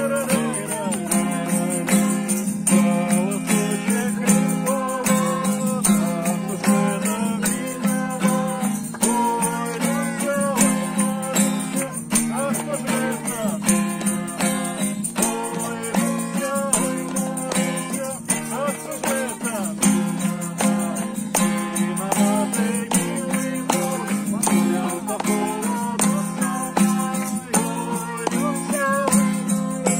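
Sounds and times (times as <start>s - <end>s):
acoustic guitar strumming: 0.0s - 29.9s
people singing: 0.0s - 29.9s.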